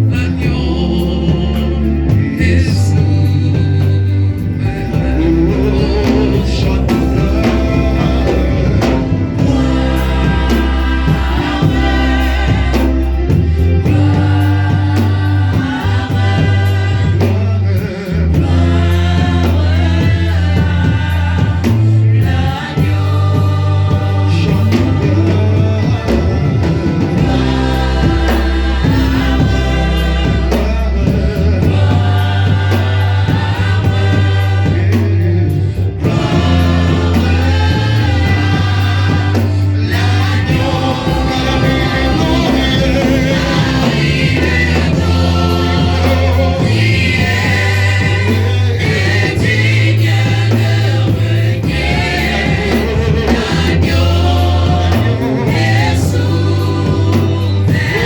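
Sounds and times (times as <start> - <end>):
band with bass and drums: 0.0 - 58.0
choir singing: 0.0 - 58.0.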